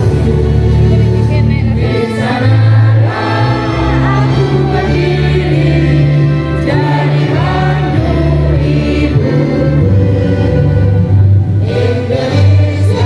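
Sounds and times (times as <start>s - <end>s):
group of voices singing: 0.0s - 13.0s.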